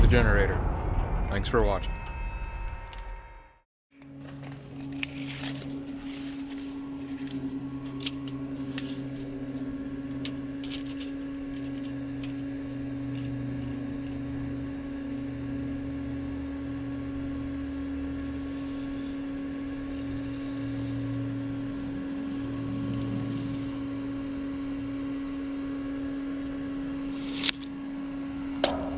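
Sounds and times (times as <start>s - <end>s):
lower hum: 0.0s - 28.9s
steady machine hum: 4.0s - 28.9s.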